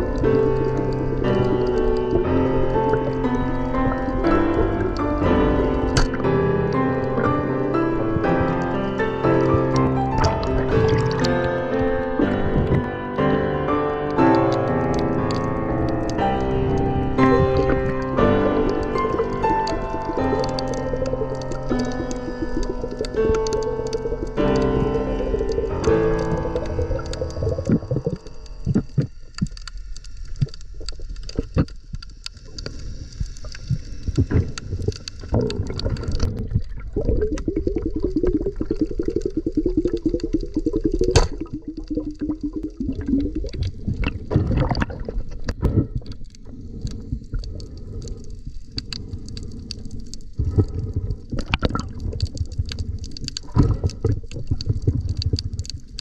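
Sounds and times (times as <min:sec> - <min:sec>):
water gurgling and sloshing: 0:00.0 - 0:13.4, 0:14.0 - 0:56.0
low rumble: 0:00.0 - 0:13.5, 0:14.3 - 0:56.0.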